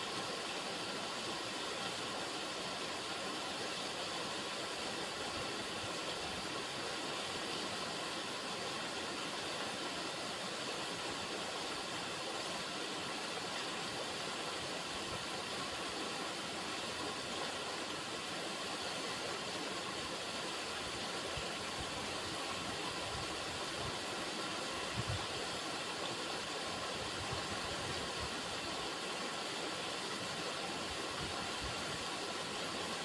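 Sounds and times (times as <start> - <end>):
river water flowing: 0.0 - 33.0.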